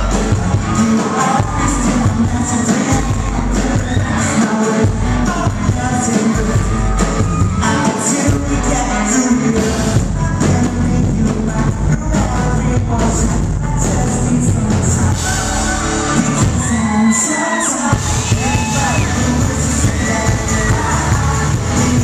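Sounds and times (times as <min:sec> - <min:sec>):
acoustic and electric guitars: 0:00.0 - 0:22.0
bass: 0:00.0 - 0:22.0
drums: 0:00.0 - 0:22.0
person singing lead vocal: 0:00.0 - 0:22.0.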